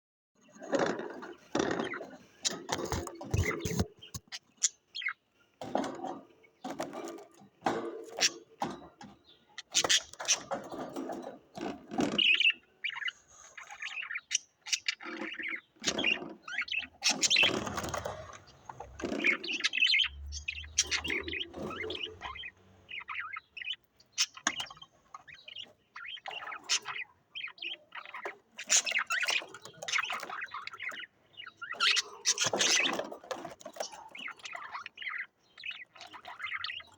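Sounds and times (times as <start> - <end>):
cage birds chirping: 0.4 - 36.9.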